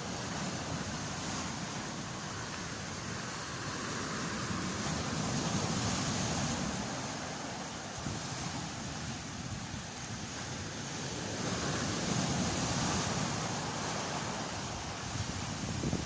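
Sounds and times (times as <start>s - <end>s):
stormy sea surf: 0.0s - 16.0s.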